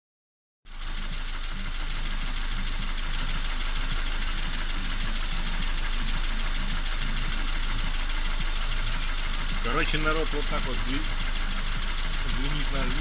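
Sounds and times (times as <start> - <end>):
engine idling: 0.7 - 13.0
rapid metallic engine knock: 0.7 - 13.0.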